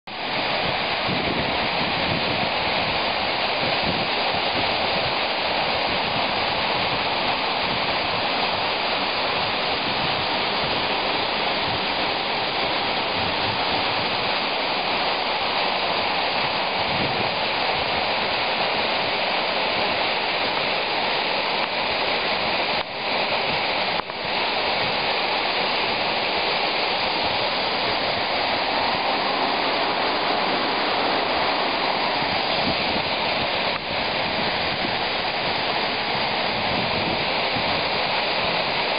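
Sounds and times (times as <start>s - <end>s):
waterfall rushing onto rocks: 0.1s - 38.9s.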